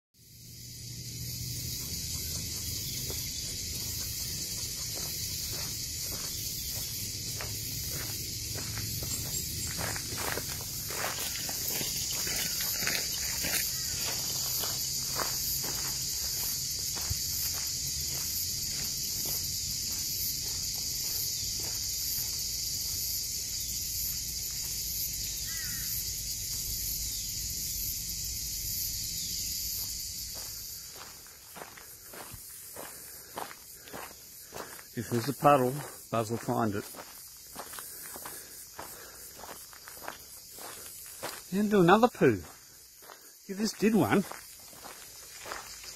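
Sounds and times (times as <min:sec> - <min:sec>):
insect chorus drone: 0:00.2 - 0:45.9
footsteps crunching on stony track: 0:02.3 - 0:26.7, 0:29.7 - 0:45.9.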